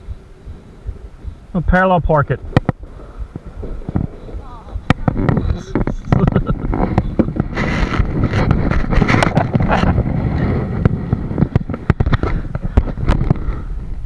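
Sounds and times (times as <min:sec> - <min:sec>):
kayak and paddle knocking: 0:00.0 - 0:14.0
wind buffeting microphone: 0:00.0 - 0:14.0.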